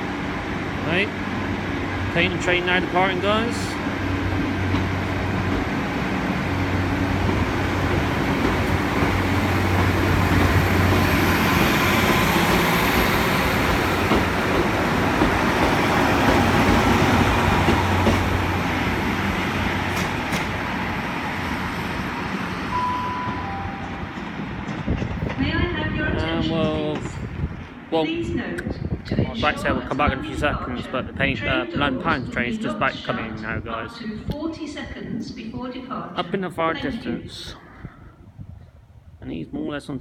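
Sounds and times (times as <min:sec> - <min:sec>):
train wheels rumbling on rails: 0:00.0 - 0:32.2.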